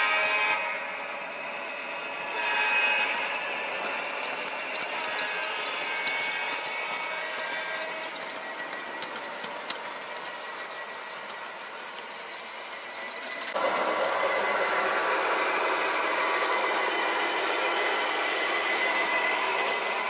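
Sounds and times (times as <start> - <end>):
high-pitched squeal: 0.0 - 20.0
model train running with whine: 0.0 - 20.0.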